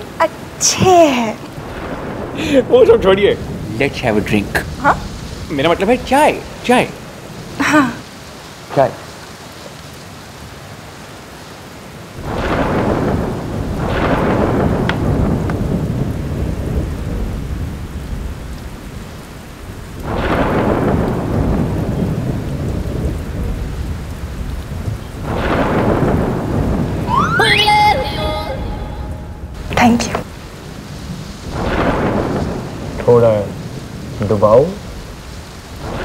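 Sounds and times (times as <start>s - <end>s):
heavy rain: 0.0s - 36.0s
thunder rolling: 0.6s - 7.9s, 12.2s - 36.0s.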